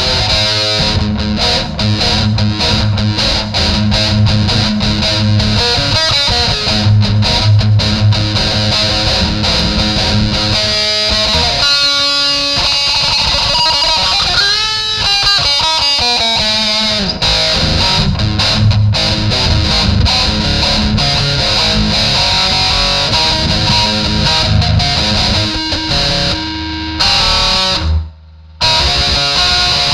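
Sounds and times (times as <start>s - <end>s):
distorted electric guitar: 0.0s - 29.9s.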